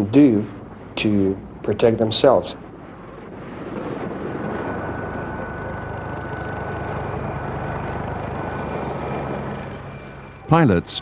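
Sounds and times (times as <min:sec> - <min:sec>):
helicopter engine and rotor: 0:00.6 - 0:10.9.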